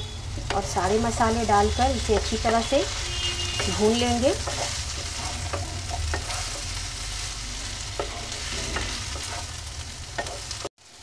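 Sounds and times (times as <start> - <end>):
vegetables sizzling in oil: 0.0 - 11.0
spatula scraping pan: 1.5 - 10.7.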